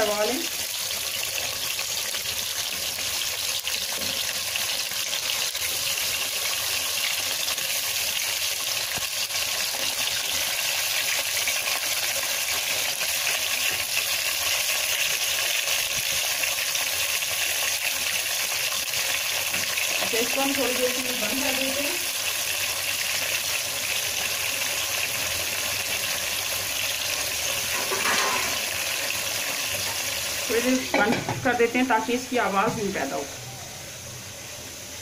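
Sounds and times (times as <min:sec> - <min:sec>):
chicken frying in hot oil: 0:00.0 - 0:35.0.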